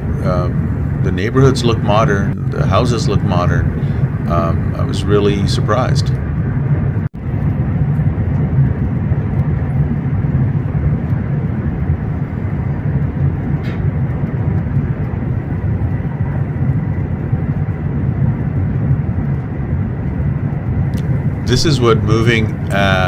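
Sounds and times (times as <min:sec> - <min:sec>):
high-speed train rumble: 0:00.0 - 0:23.0.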